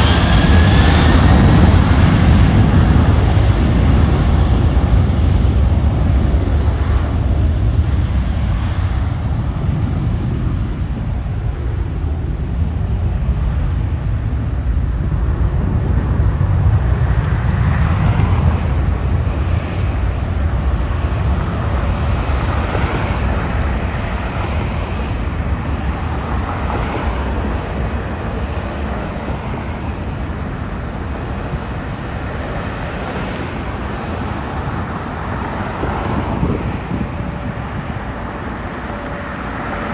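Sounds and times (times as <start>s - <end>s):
jet engine rumble: 0.0s - 39.9s
wind buffeting microphone: 0.0s - 39.9s.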